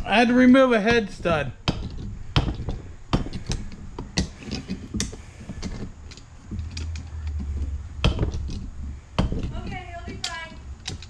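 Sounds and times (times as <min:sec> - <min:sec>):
hard objects clicking and knocking: 0:00.0 - 0:11.0
low hum: 0:00.0 - 0:11.0.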